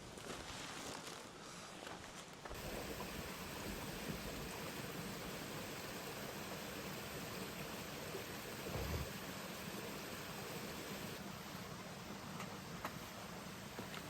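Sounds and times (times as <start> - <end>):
stream water rushing: 2.6 - 14.0.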